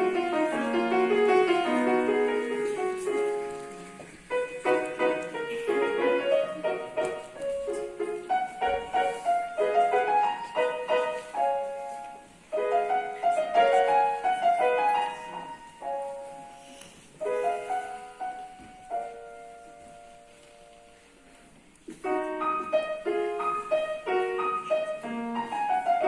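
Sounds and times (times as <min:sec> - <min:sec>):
piano playing: 0:00.0 - 0:26.0.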